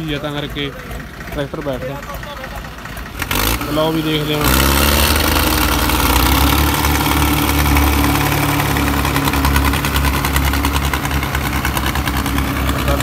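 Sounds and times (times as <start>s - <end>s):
tractor engines under load: 0.0s - 13.0s.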